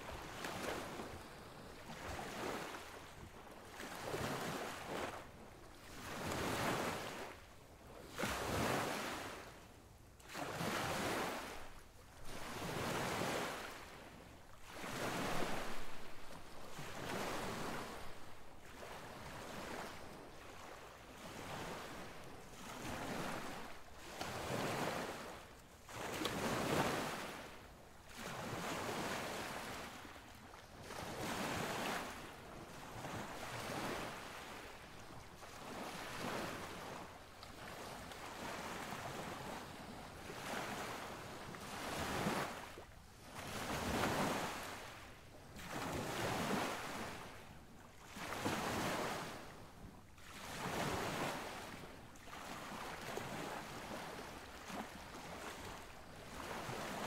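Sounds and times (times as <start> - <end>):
surf washing on sand: 10.2 - 57.0.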